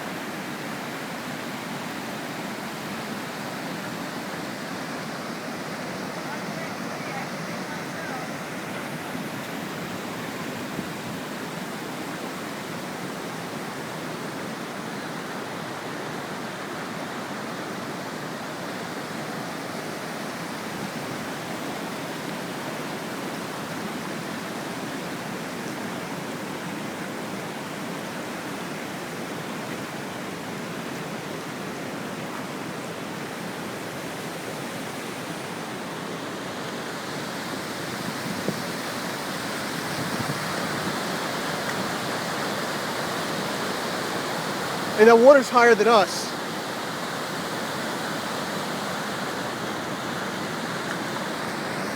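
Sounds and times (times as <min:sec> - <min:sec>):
floodwater rushing: 0:00.0 - 0:51.9.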